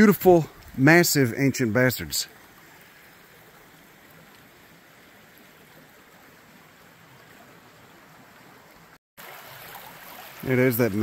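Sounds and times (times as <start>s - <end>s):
forest creek flowing: 0.0s - 11.0s.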